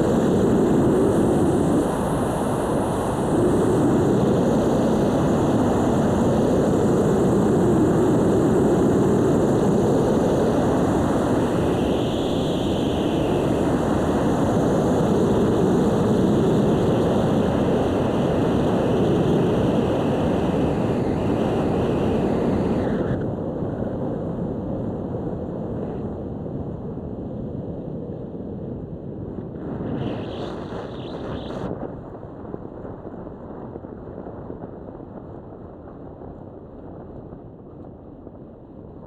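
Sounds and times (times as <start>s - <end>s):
airflow rushing over microphone: 0.0s - 32.8s.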